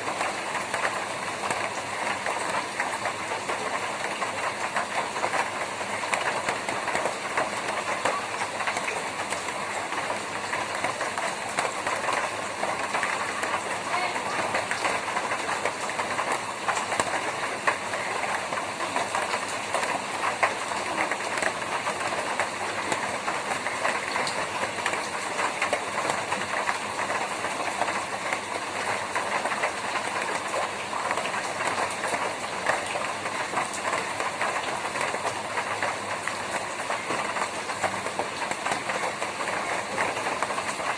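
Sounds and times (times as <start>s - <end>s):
rain drumming on a tin roof: 0.0s - 40.9s.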